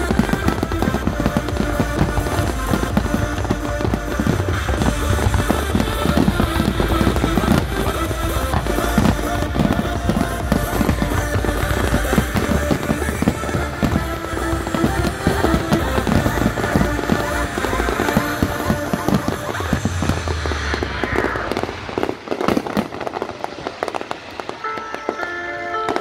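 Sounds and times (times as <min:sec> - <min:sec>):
fireworks bursting and crackling: 0:00.0 - 0:26.0
music playing: 0:00.0 - 0:26.0.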